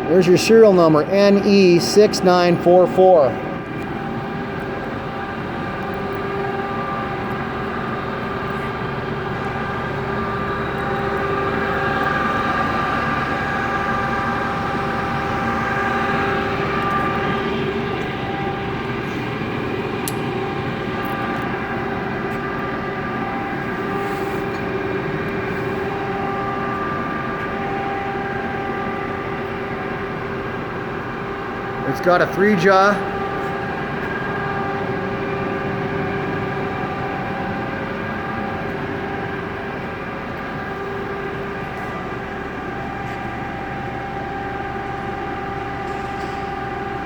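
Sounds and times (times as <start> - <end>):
lathe running with whine: 0.0 - 47.0.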